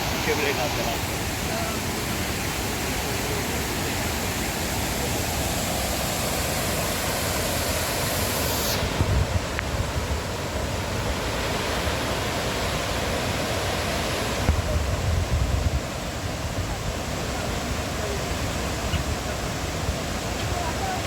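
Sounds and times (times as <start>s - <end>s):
waterfall rushing over rocks: 0.0s - 21.0s.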